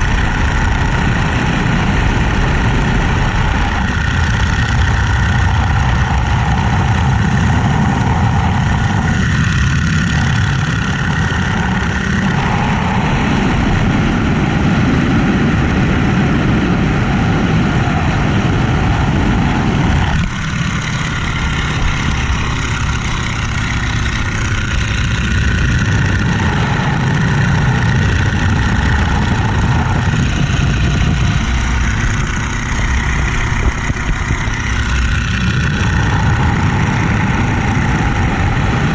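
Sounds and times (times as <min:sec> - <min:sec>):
biplane radial engine: 0:00.0 - 0:38.9
rush of air: 0:00.0 - 0:38.9.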